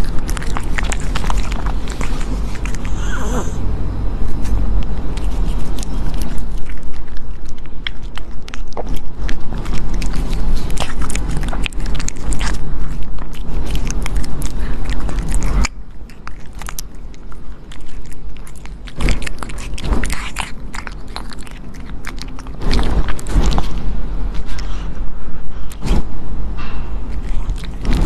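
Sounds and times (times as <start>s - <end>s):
pet chewing crunchy food: 0.0s - 28.0s
steady low hum: 0.0s - 28.0s.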